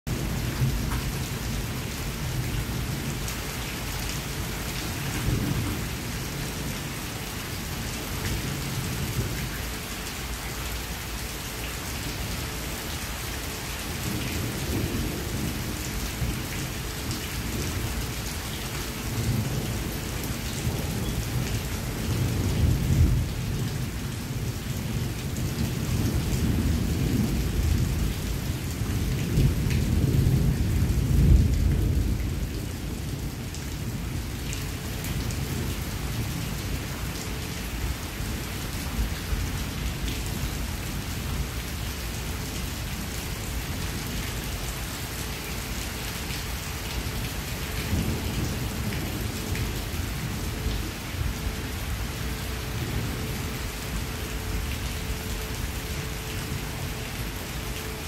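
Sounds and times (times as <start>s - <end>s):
heavy rain on grass and trees: 0.1s - 58.0s.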